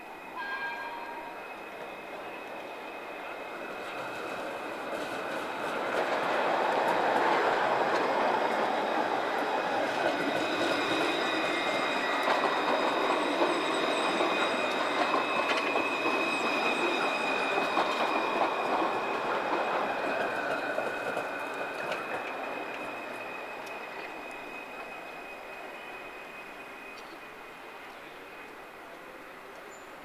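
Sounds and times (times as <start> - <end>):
tram wheels squealing on curve: 0.0 - 30.0.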